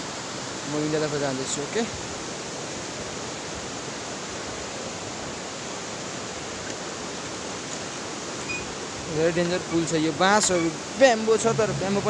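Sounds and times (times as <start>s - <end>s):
fast stream rushing: 0.0s - 12.0s.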